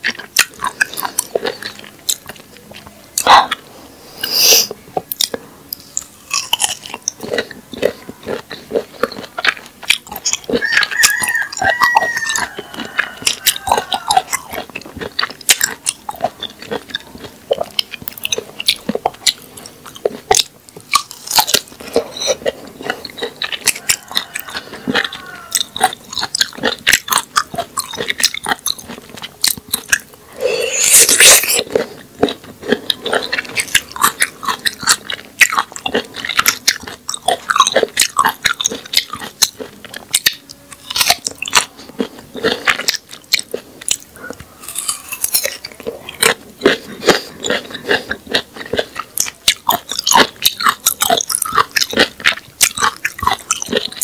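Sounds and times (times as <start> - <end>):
wet chewing: 0.0 - 54.0
crunching raw cactus: 4.6 - 54.0.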